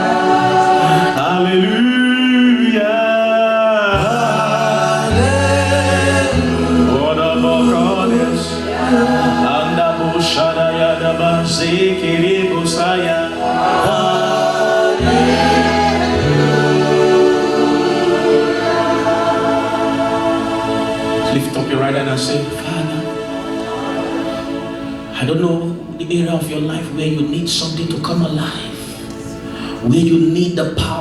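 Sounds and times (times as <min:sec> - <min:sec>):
singers singing gospel song: 0:00.0 - 0:30.2
sustained low chords: 0:04.0 - 0:30.4.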